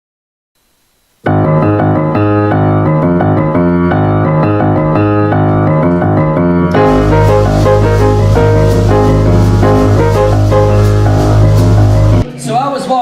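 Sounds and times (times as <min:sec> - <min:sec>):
piano music: 0:01.3 - 0:12.2.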